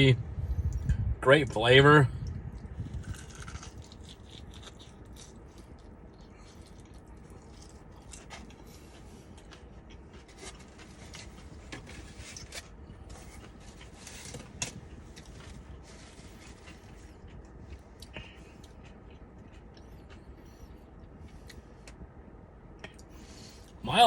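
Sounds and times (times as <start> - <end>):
person chewing food: 2.2 - 22.1.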